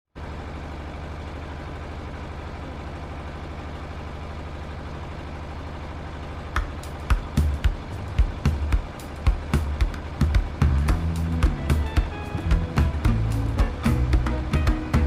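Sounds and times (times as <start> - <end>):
boat engine humming: 0.2 - 15.0.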